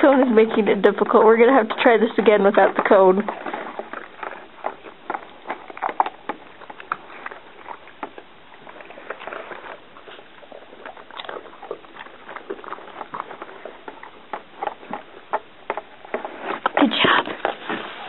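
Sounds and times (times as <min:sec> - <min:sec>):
dog chewing: 0:00.0 - 0:18.0.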